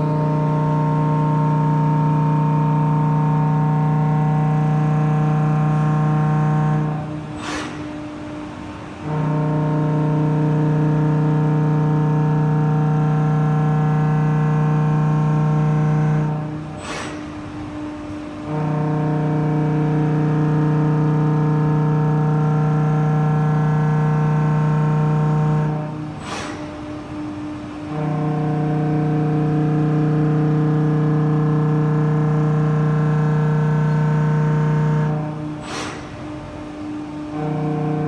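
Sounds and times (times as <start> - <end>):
machining centre milling whine: 0.0 - 38.0.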